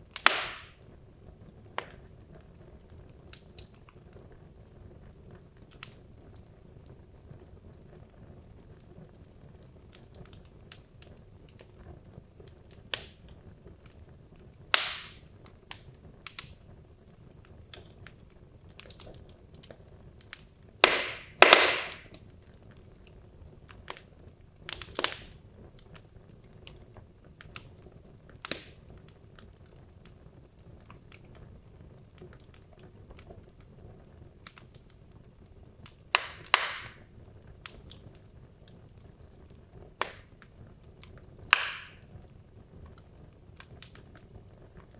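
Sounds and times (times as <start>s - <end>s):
faint steady hiss: 0.0s - 44.9s
logs crackling and popping: 0.0s - 44.9s
sharp fire cracks: 0.0s - 44.9s.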